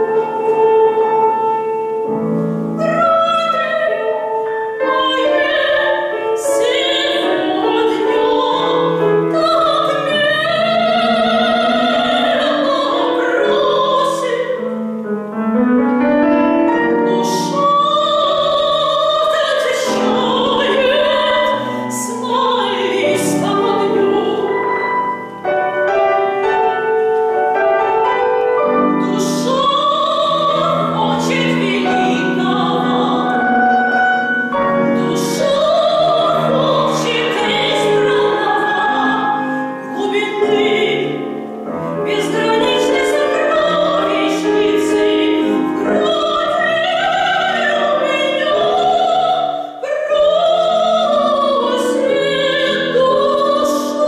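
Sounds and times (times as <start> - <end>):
piano: 0.0 - 54.0
woman singing operatically: 2.6 - 14.8, 16.9 - 24.8, 28.1 - 54.0.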